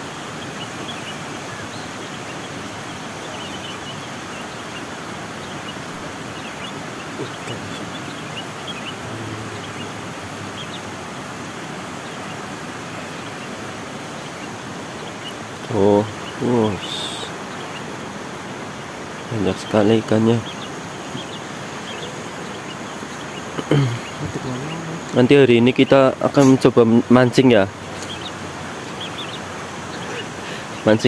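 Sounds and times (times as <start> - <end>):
faint bird chirps: 0.0 - 31.0
stream water flowing: 0.0 - 31.0.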